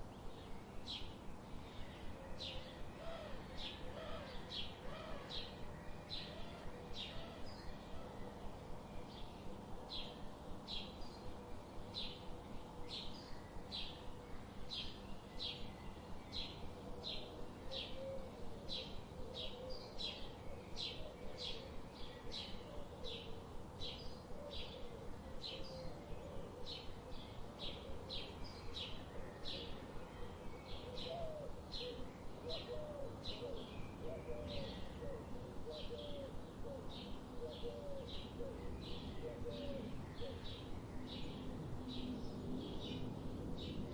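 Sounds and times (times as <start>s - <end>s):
lower wavering bird calls: 1.0s - 10.2s, 14.8s - 43.0s.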